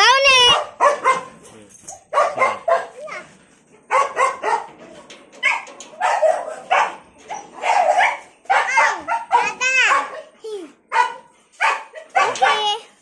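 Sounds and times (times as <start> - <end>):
dog barking: 0.4 - 1.4, 2.0 - 3.2, 3.9 - 4.8, 5.4 - 12.9.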